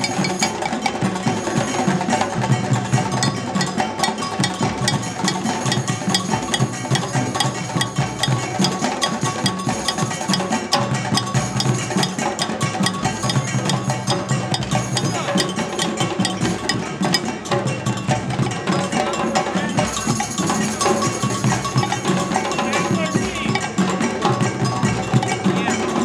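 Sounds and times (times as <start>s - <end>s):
drum circle playing hand drums: 0.0s - 26.0s.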